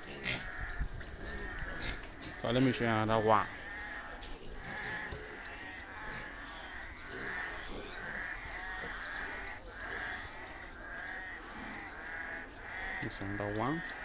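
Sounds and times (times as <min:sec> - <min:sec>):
piglets squealing: 0:01.4 - 0:13.0.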